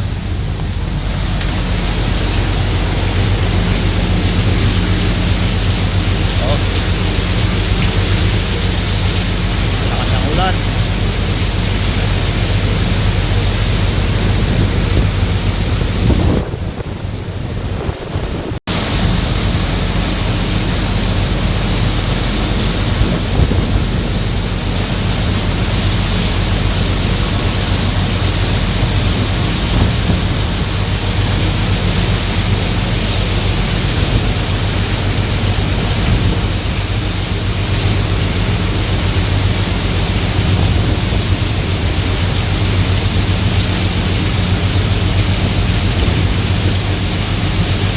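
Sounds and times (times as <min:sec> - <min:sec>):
heavy rain: 0:00.0 - 0:47.9
low hum: 0:00.0 - 0:47.9
wind: 0:00.0 - 0:47.9.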